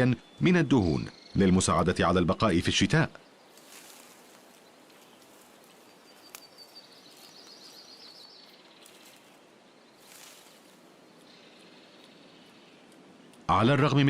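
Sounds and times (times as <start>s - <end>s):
faint forest ambience: 0.0s - 14.0s.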